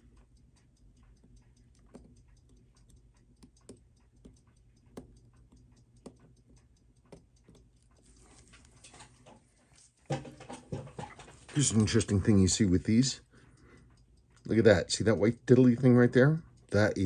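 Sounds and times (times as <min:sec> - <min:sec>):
small tools clicking on watch parts: 0:00.0 - 0:10.1, 0:11.6 - 0:17.0.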